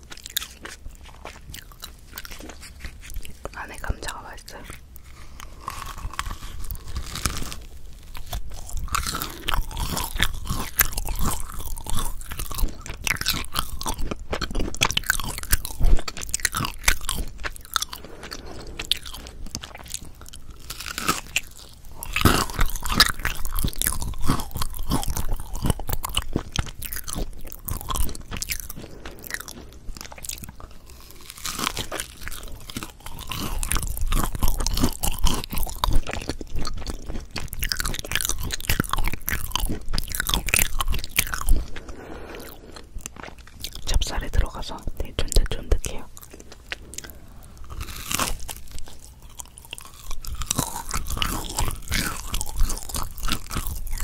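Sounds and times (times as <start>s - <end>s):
biting into soft bread: 0.0s - 44.0s, 46.1s - 54.0s
moist sticky chewing: 0.0s - 54.0s.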